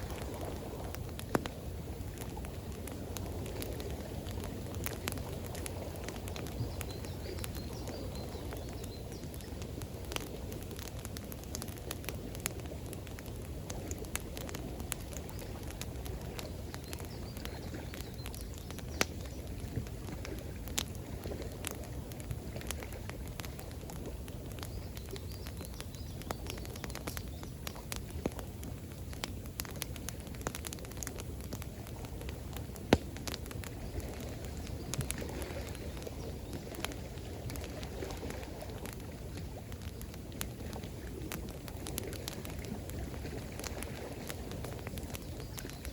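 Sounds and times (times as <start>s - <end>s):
campfire crackling and popping: 0.0s - 45.9s
flowing water: 0.0s - 45.9s.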